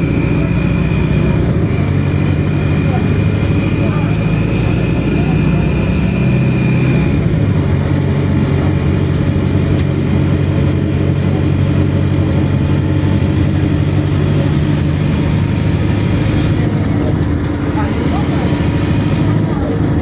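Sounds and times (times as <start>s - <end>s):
bus engine hum: 0.0s - 20.0s.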